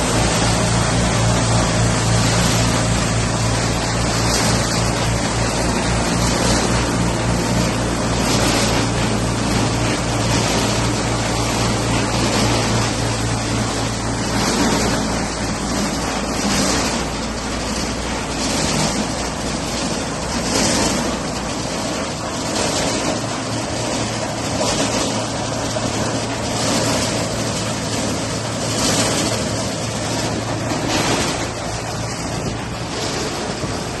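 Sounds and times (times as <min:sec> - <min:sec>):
block making machine running: 0:00.0 - 0:34.0.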